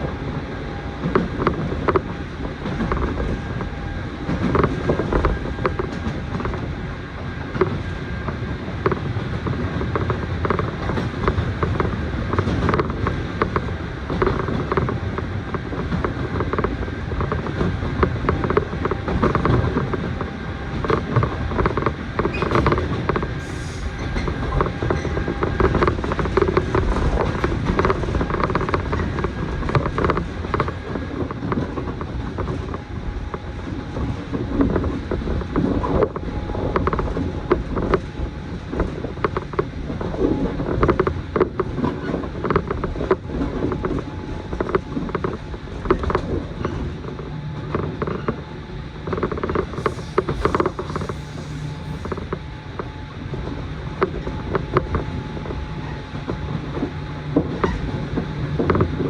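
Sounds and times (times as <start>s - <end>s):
train carriage creaks and rattles: 0.0s - 59.0s
train wheels rumbling on rail: 0.0s - 59.0s.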